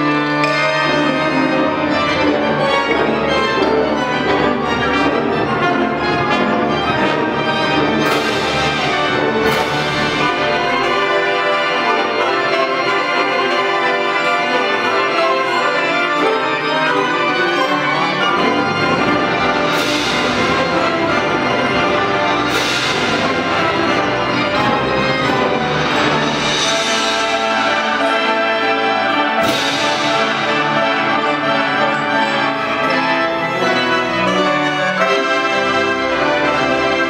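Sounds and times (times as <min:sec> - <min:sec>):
wind band playing sustained chords: 0:00.0 - 0:37.0.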